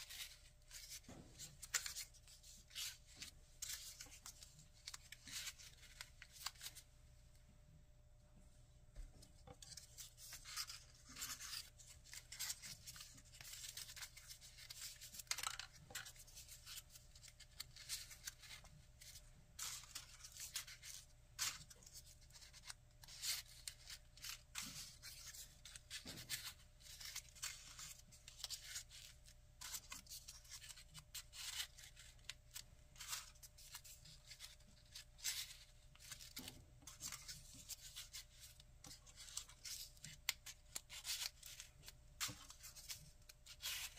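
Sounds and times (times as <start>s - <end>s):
folded paper rustling and scraping: 0.0s - 6.9s, 9.3s - 43.9s.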